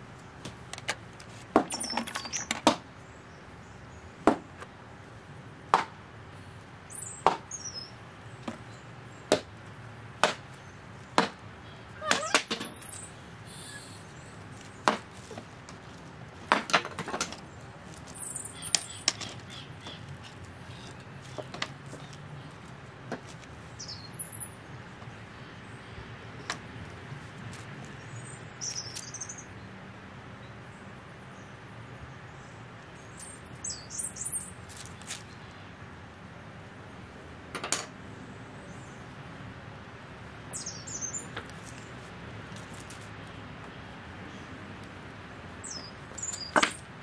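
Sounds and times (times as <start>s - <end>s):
birds chirping: 0.0s - 5.4s, 6.2s - 29.7s, 30.3s - 35.8s, 40.2s - 47.0s.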